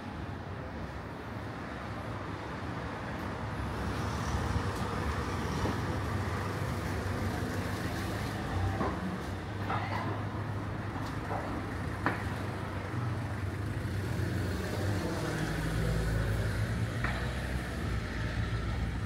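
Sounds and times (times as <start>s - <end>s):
city background noise: 0.0s - 19.0s.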